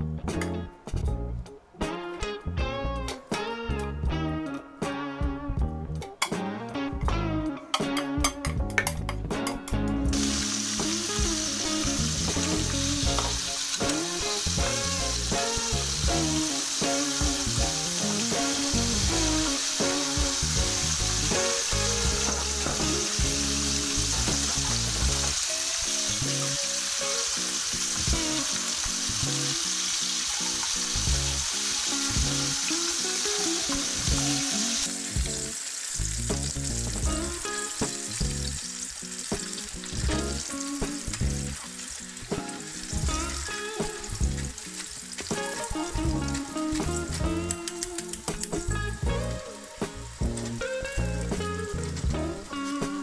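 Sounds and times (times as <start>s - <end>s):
soft background music: 0.0s - 53.0s
meat deep-frying in hot oil: 8.2s - 53.0s.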